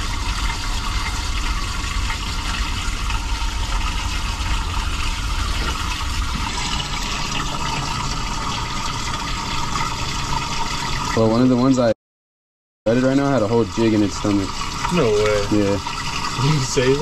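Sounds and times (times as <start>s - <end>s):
running water rushing: 0.0s - 11.9s, 12.9s - 17.0s.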